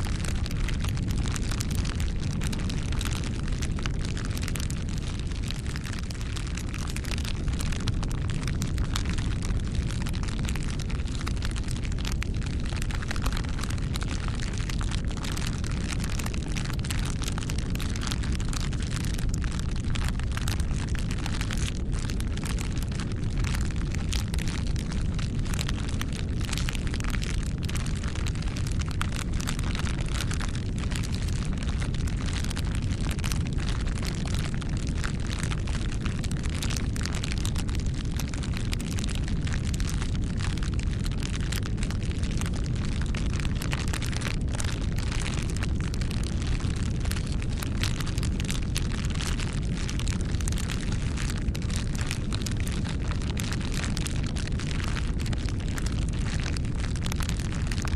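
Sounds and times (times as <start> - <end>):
fire crackling and popping: 0.0 - 57.9
fire flames rumbling: 0.0 - 57.9.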